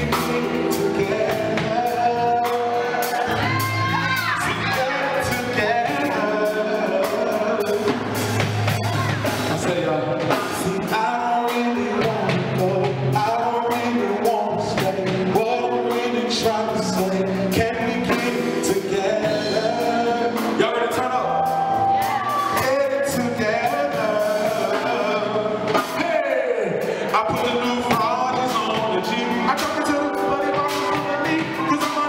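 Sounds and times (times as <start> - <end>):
man singing into microphone: 0.0 - 8.3, 9.3 - 32.0
live band music: 0.0 - 32.0.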